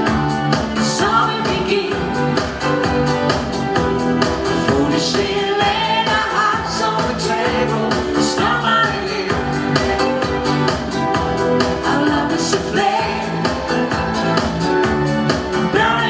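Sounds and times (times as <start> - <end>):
pop song with singer and band: 0.0 - 16.0.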